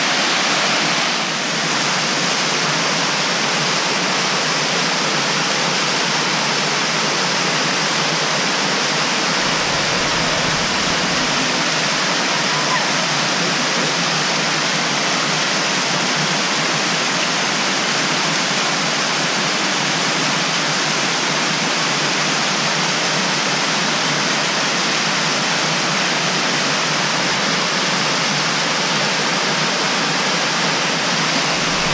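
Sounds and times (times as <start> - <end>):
waterfall roaring: 0.0 - 31.9.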